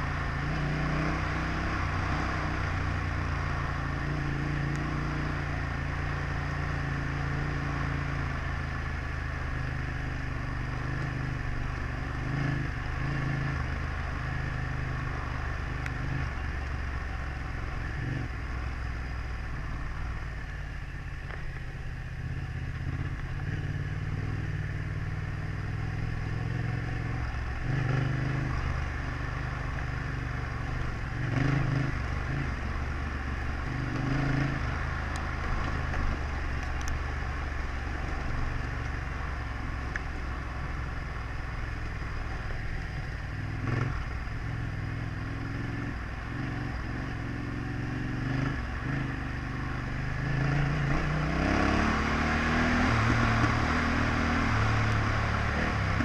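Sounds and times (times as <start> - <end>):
motorcycle engine revving: 0.0 - 18.8, 21.6 - 56.0.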